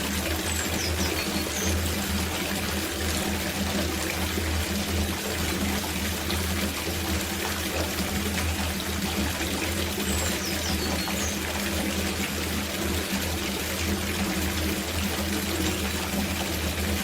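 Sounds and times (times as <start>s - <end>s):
tap water pouring into bathtub: 0.0s - 17.0s.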